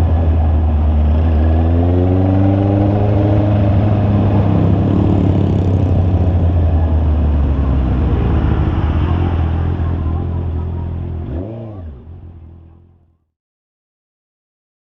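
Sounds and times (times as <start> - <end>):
motorcycle engine drone: 0.0 - 13.2.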